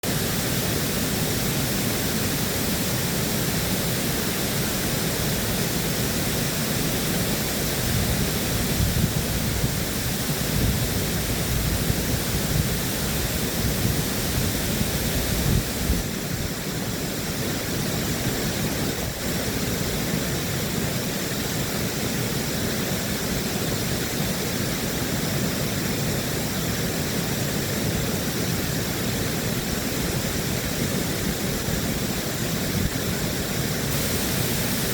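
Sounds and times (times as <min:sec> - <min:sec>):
water rushing through a dam: 0:00.0 - 0:34.9.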